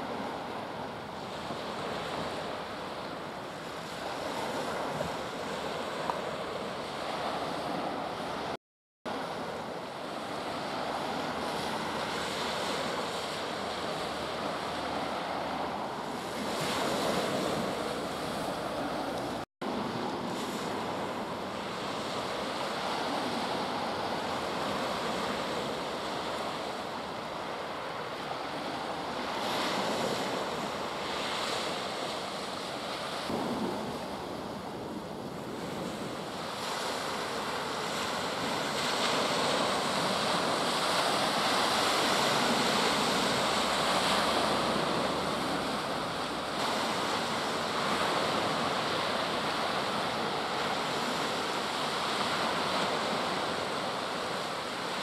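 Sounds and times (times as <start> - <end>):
sea waves washing onto shore: 0.0 - 55.0
wind on microphone: 0.0 - 55.0.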